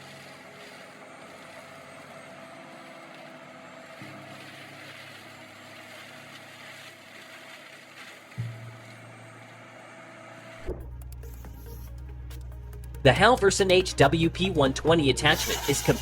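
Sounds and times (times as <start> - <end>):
machine engine running: 0.0 - 16.0.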